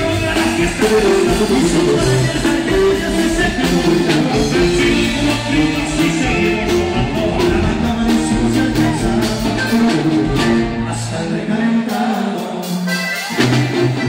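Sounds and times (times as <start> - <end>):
sousaphone bass line: 0.0 - 11.3
drums: 0.0 - 14.0
guitar: 0.0 - 14.0.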